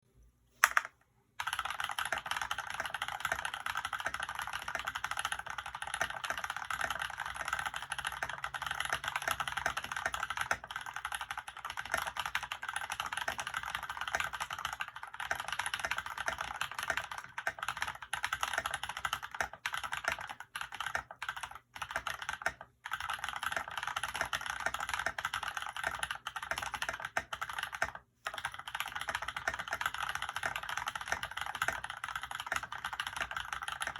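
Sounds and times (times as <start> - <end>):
mechanical keyboard typing: 0.6 - 33.9.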